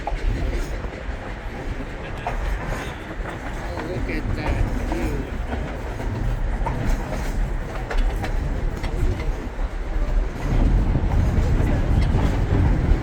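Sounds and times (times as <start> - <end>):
train rumbling and rattling on rails: 0.0 - 13.0.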